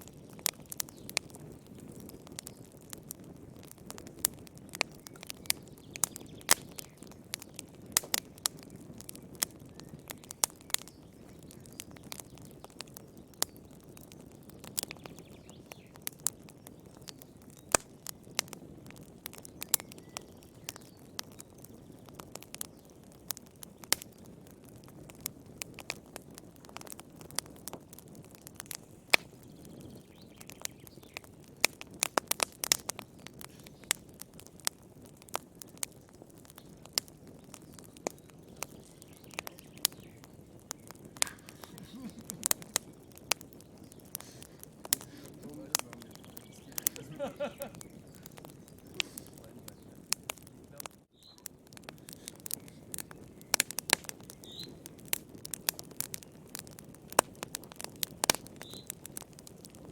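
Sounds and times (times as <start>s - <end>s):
soft rush of flame: 0.0s - 59.9s
wood fire crackling and popping: 0.0s - 59.9s.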